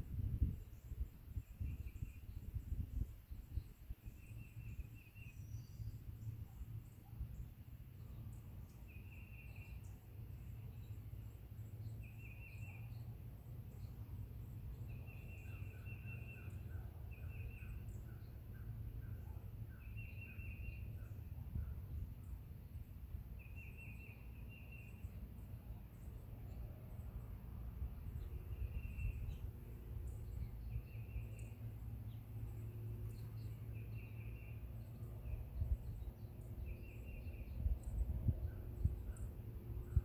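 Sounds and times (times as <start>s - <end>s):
songbirds chirping trills: 0.0s - 40.0s
steady low rumble: 0.0s - 40.0s.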